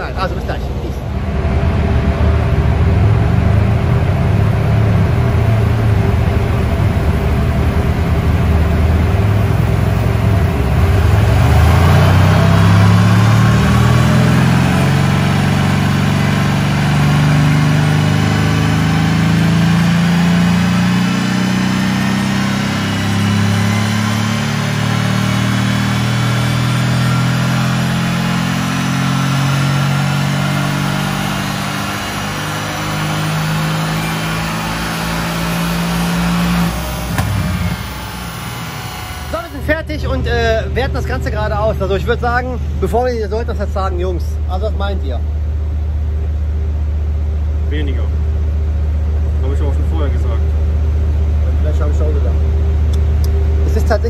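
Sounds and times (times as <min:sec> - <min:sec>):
car engine on dynamometer: 0:00.0 - 0:54.0.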